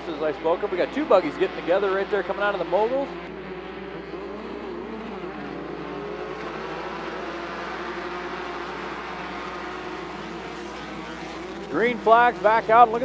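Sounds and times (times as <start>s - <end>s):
several race car engines running: 0.0s - 13.0s.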